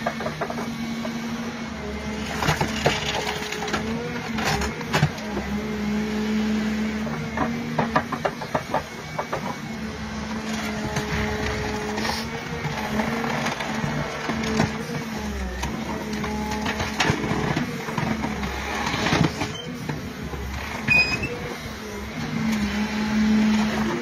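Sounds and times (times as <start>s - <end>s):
machine engine droning: 0.0s - 24.0s.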